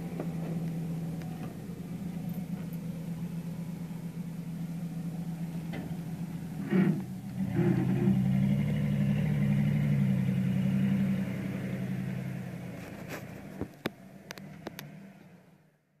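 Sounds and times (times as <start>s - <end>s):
pickup engine idling: 0.0s - 15.8s.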